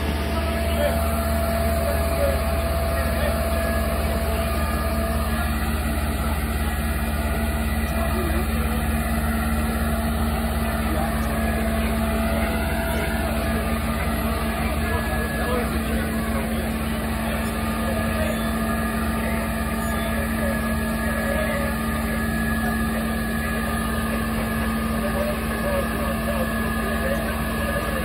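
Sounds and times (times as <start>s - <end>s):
diesel engine humming: 0.0s - 28.0s
faint voices: 0.0s - 28.0s.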